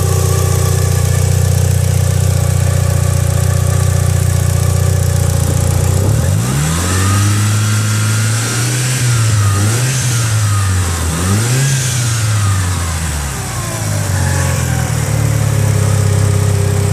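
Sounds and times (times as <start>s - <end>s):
car engine idling and revving: 0.0s - 16.9s.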